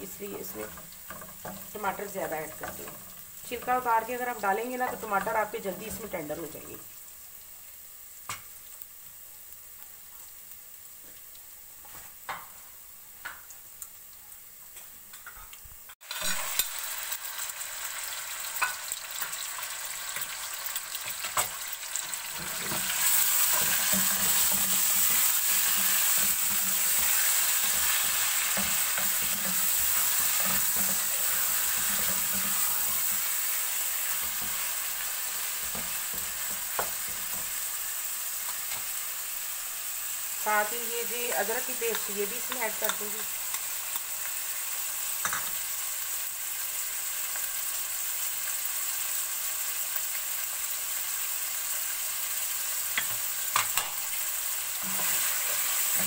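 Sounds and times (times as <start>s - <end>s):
chicken frying in oil: 0.0s - 56.0s
oil sizzling in pot: 0.0s - 56.0s.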